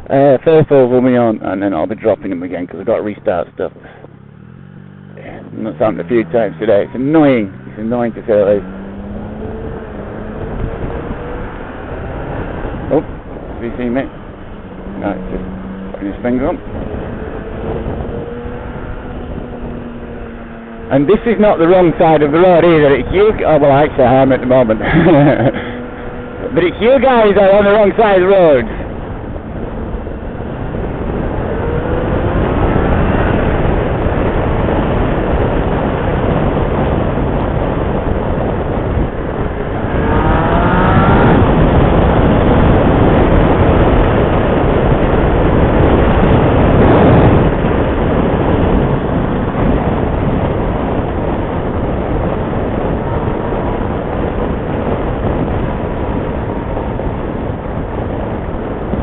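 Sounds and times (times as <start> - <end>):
ride noise rush: 0.0 - 59.0
motorcycle engine accelerating: 1.4 - 59.0.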